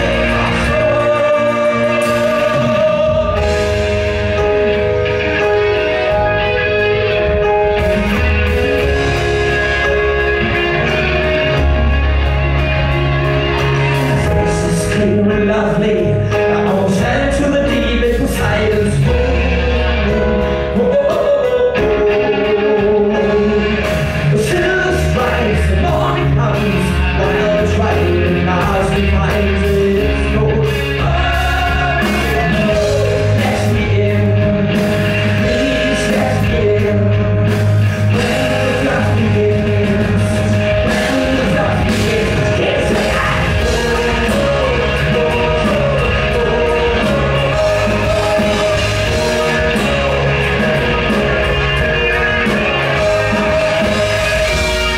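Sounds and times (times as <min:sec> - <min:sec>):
lead vocal singing: 0:00.0 - 0:54.9
live rock band playing: 0:00.0 - 0:54.9.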